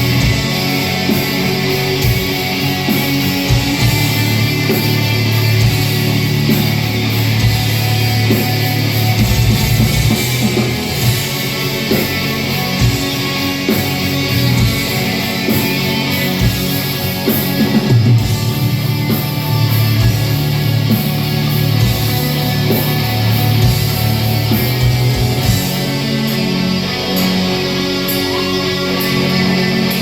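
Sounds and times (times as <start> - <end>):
distorted electric guitars: 0.0 - 30.0.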